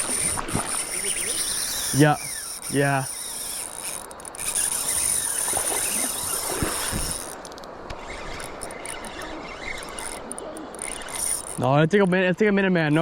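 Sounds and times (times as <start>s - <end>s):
crickets chirping: 0.0s - 11.6s.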